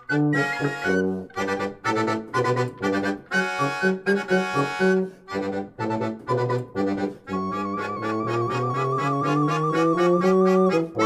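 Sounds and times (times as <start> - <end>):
bouncy tune on reedy instrument: 0.0 - 11.0.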